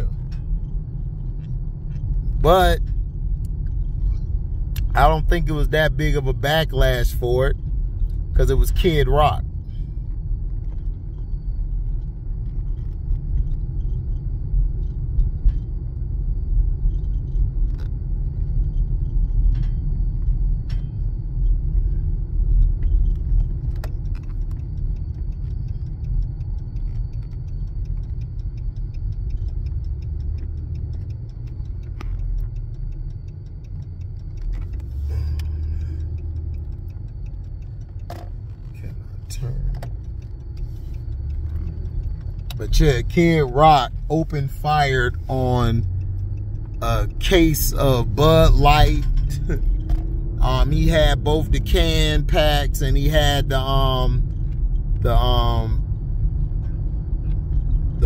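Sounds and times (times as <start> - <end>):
car cabin rumble: 0.0 - 58.0
faint clicks and rattles: 0.0 - 58.0.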